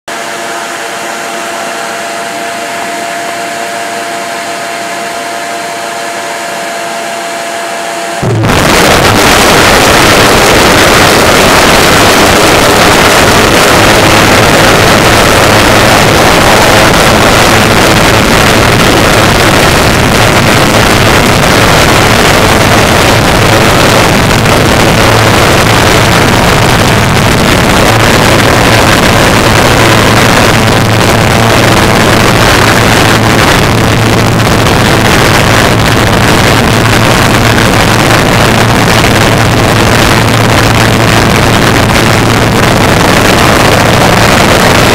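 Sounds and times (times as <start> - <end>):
pulse jet engine buzzing drone: 0.0 - 44.9
exhaust rushing: 7.7 - 44.9.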